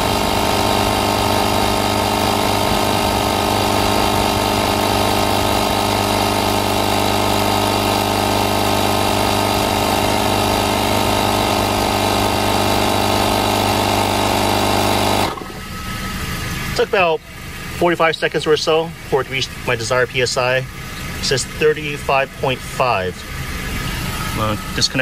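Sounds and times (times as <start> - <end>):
electric tire compressor running: 0.0 - 25.0.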